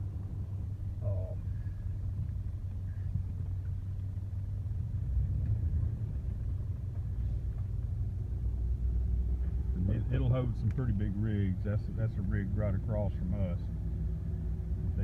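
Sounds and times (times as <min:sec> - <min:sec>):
vehicle rumble from inside cab: 0:00.0 - 0:15.0.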